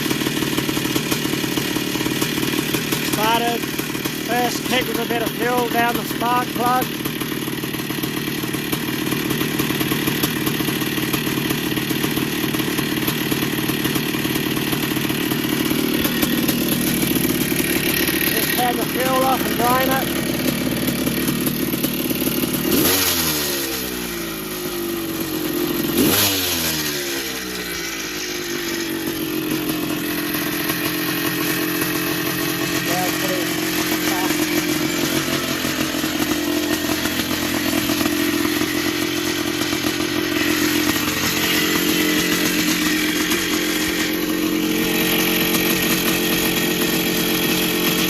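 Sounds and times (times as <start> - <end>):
two-stroke motorcycle engine running: 0.0 - 48.0.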